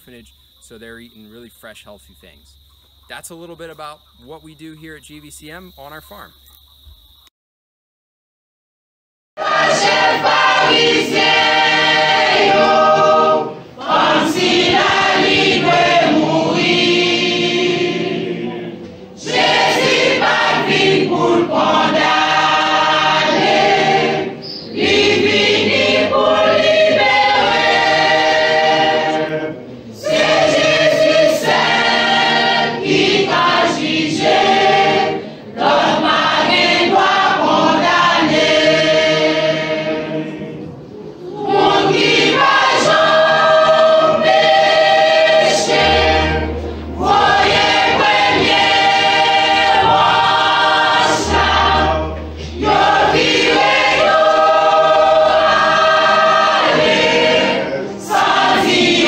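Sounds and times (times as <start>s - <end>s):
choir singing: 9.4s - 59.0s.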